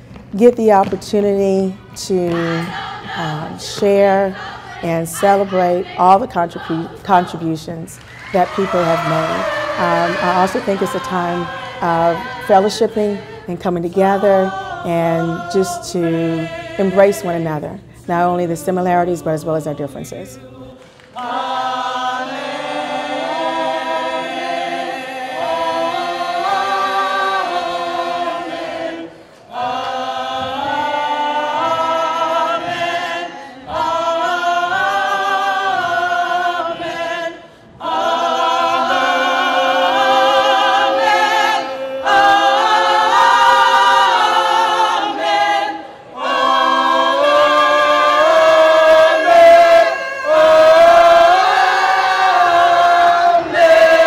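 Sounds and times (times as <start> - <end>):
a cappella group singing in harmony: 0.0 - 54.0.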